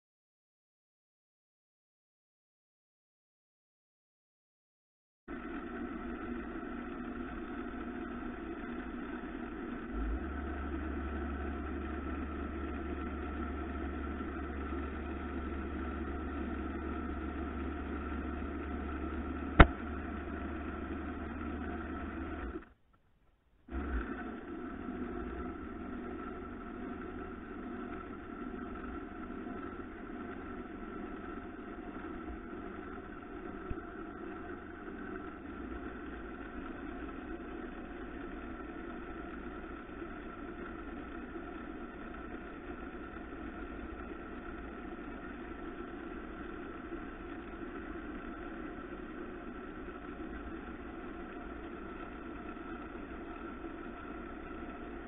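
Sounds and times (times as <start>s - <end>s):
wood lathe motor hum: 5.3s - 22.7s, 23.7s - 55.0s.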